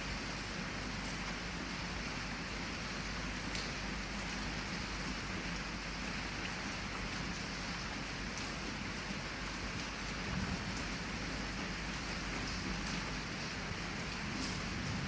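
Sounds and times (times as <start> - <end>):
heavy rain pattering on window: 0.0 - 15.0.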